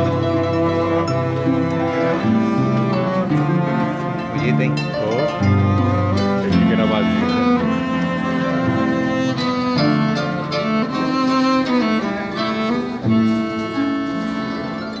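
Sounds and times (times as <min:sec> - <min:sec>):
bowed cello notes: 0:00.0 - 0:15.0
plucked harp chords: 0:00.0 - 0:15.0.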